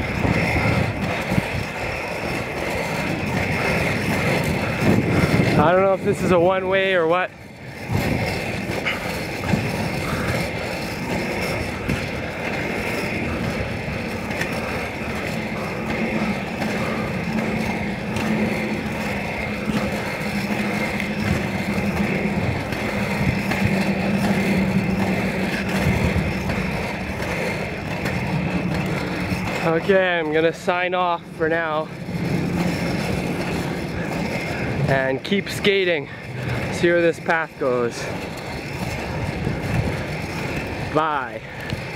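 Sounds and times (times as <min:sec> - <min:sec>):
inline skate wheels rolling on asphalt: 0:00.0 - 0:41.9
low hum: 0:00.0 - 0:41.9.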